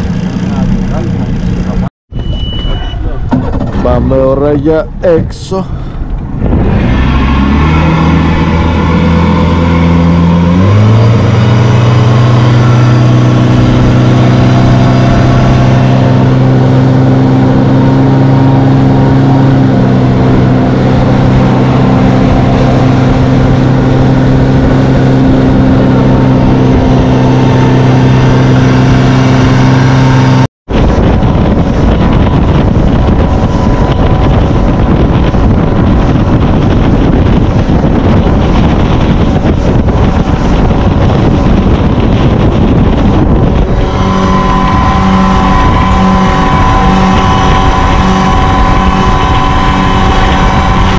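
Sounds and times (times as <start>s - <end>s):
motorboat engine running: 0.0s - 50.9s
wind and water rushing: 3.2s - 50.9s.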